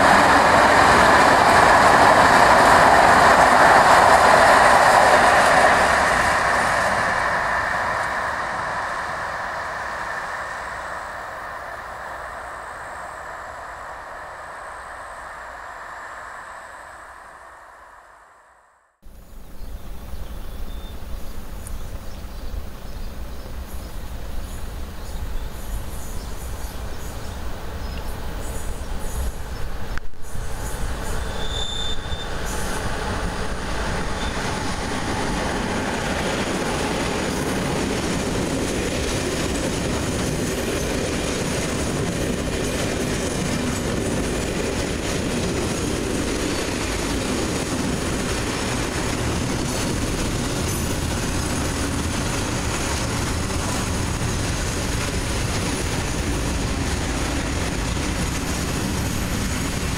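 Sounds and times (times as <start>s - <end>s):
freight train wheels rumbling: 0.0s - 18.2s, 19.3s - 59.9s.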